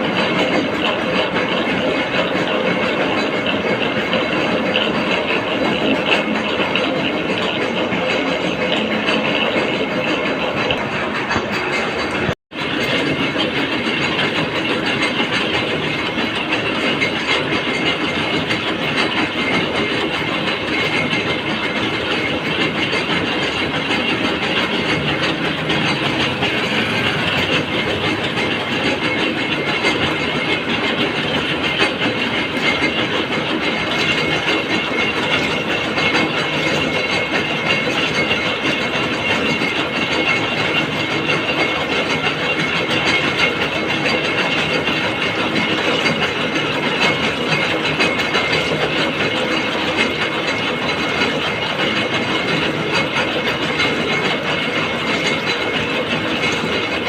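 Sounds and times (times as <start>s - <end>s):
gear-cutting machine running: 0.0s - 57.0s.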